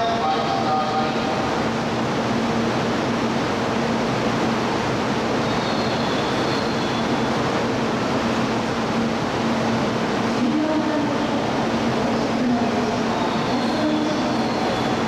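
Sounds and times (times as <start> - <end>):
train approaching: 0.0 - 15.0.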